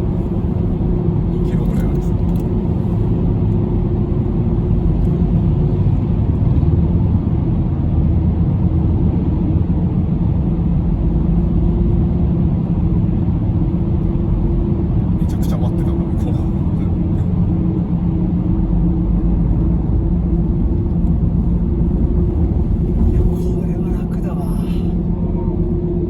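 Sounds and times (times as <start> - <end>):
car cabin road rumble: 0.0 - 26.0.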